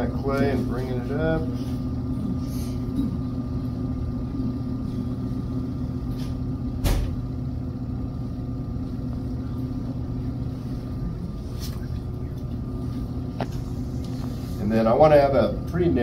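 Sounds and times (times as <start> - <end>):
potter's wheel humming: 0.0 - 16.0.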